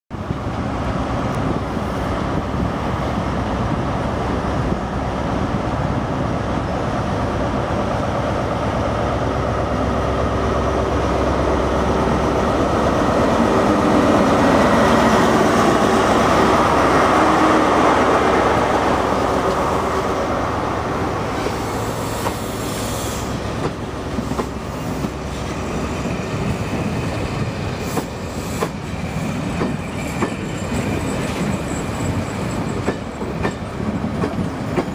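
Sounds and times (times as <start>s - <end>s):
diesel locomotive engine: 0.1s - 34.9s.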